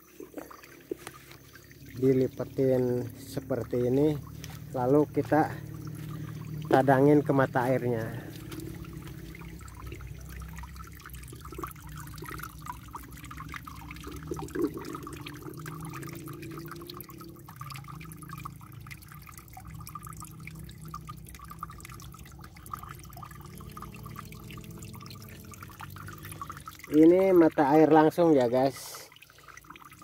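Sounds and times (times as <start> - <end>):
water trickling and dripping: 0.0 - 30.0.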